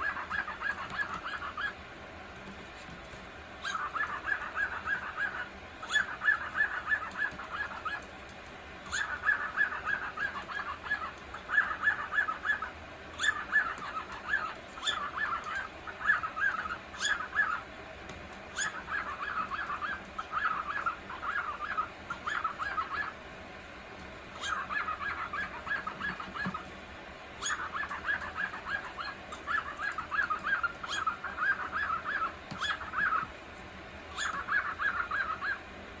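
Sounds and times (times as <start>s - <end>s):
cockatiel chirping: 0.0s - 1.8s, 3.6s - 17.7s, 18.5s - 23.2s, 24.3s - 26.8s, 27.4s - 33.4s, 34.1s - 35.7s.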